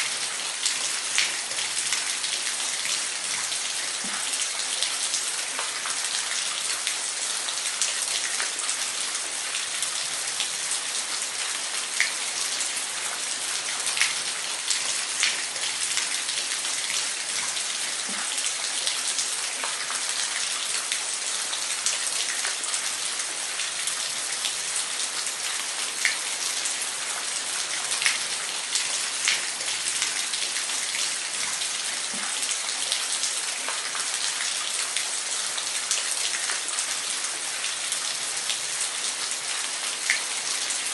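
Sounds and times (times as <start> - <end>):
water splashes and drips: 0.0 - 40.9.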